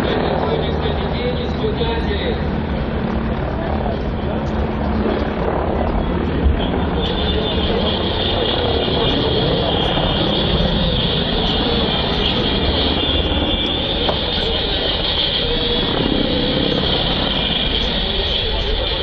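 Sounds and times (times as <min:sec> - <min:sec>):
helicopter rotor and engines: 0:00.0 - 0:19.0.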